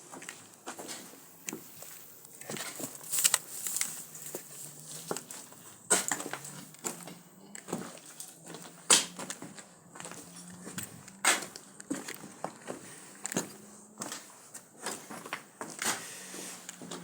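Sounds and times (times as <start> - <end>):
footsteps crunching: 0.0 - 17.0.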